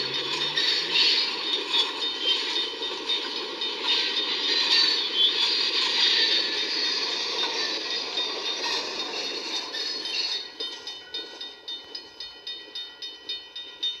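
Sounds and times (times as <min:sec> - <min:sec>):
railroad crossing bell ringing: 0:00.0 - 0:14.0
train running on rails: 0:00.0 - 0:14.0.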